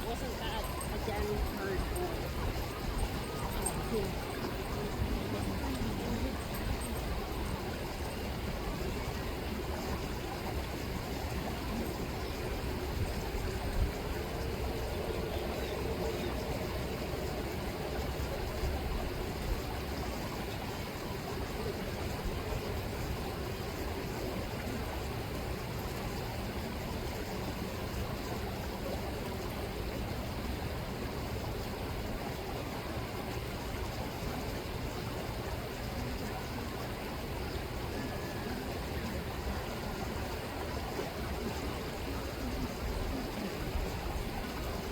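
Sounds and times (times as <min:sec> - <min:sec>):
river water rushing: 0:00.0 - 0:14.8, 0:16.6 - 0:44.9.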